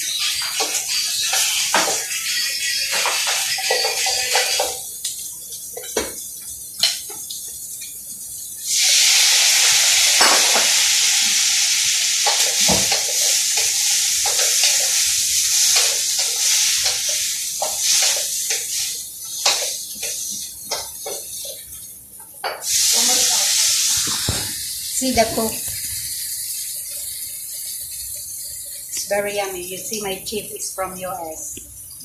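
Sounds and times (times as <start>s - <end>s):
food sizzling in pan: 0.0s - 32.0s.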